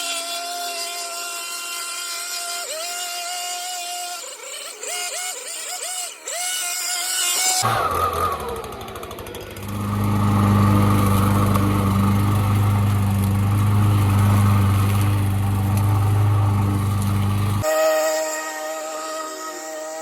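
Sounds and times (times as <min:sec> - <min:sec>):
hedge trimmer motor droning: 0:00.0 - 0:20.0.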